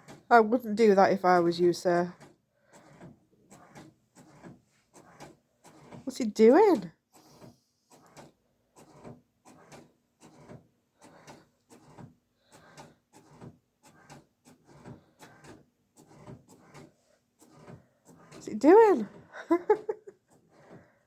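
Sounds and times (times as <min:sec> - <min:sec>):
printer mechanical strokes: 0:00.0 - 0:00.4, 0:01.3 - 0:20.9.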